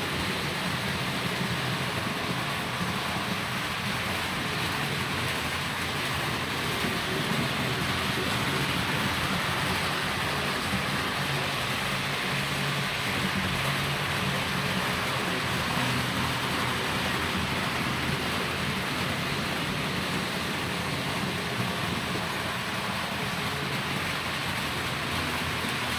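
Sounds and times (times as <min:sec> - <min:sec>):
model train wheels rolling: 0:00.0 - 0:25.9.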